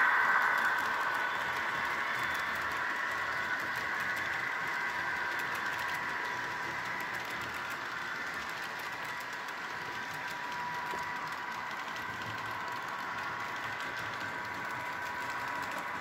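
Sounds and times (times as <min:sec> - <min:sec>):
model train motor whine: 0:00.0 - 0:16.0
wheels clicking on rails: 0:00.0 - 0:16.0.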